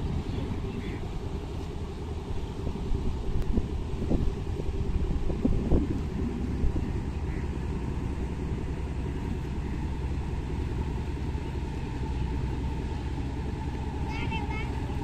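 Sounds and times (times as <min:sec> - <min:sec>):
boat engine rumbling: 0:00.0 - 0:15.0
faint steady whine: 0:00.0 - 0:15.0.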